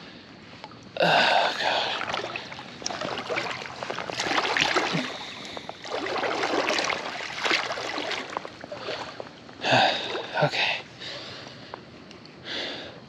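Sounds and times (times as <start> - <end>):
river water sloshing and splashing: 0.6 - 11.4.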